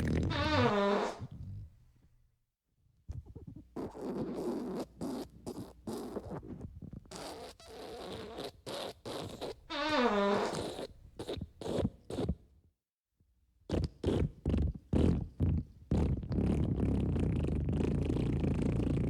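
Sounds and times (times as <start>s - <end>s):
sputtering fart sounds: 0.0s - 1.7s, 3.2s - 12.4s, 13.7s - 19.0s.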